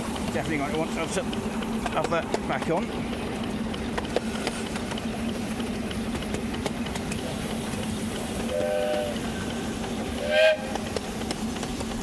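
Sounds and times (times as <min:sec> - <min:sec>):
miniature steam locomotive running: 0:00.0 - 0:12.0.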